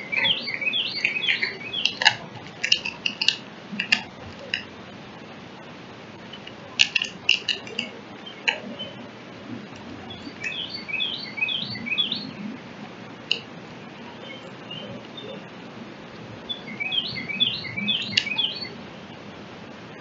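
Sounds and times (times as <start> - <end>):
bird chirps and warbling song: 0.0 - 4.7, 6.2 - 12.6, 13.3 - 15.5, 16.4 - 19.2.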